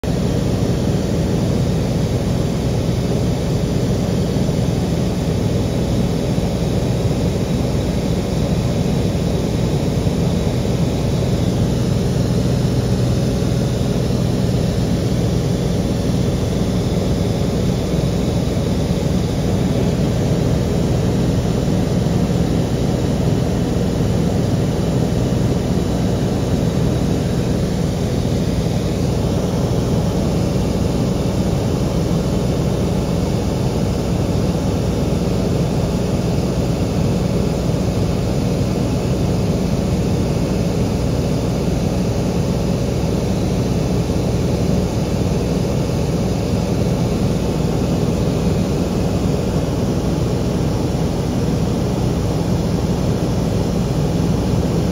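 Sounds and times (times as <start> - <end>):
aircraft engine drone: 0.0 - 54.9.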